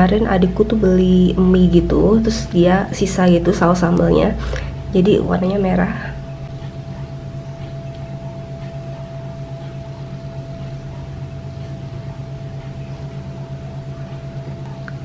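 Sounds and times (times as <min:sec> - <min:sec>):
machine hum with high tone: 0:00.0 - 0:15.0.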